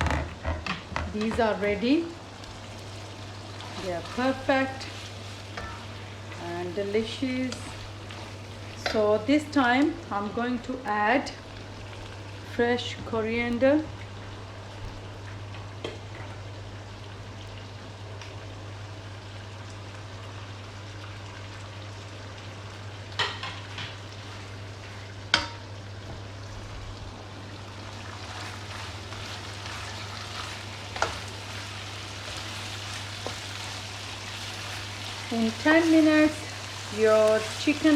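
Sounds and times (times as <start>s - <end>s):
meat sizzling in a pan: 1.5s - 37.9s.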